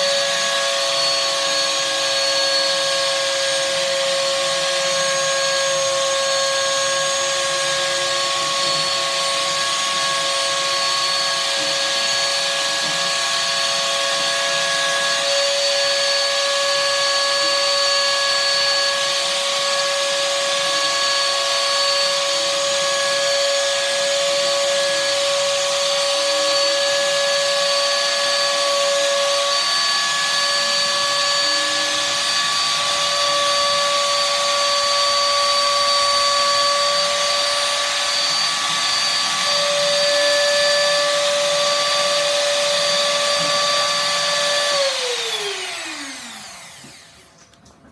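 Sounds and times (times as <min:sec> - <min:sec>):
router high-pitched whine: 0:00.0 - 0:47.6.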